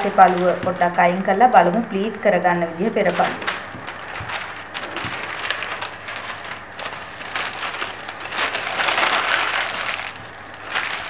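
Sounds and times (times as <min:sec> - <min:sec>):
paper and plastic crinkling: 0:00.0 - 0:01.0, 0:03.0 - 0:11.0.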